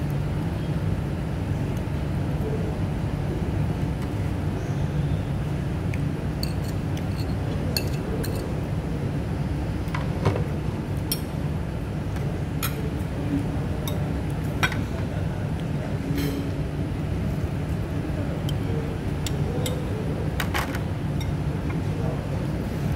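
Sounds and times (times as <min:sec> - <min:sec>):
low room rumble: 0:00.0 - 0:22.9.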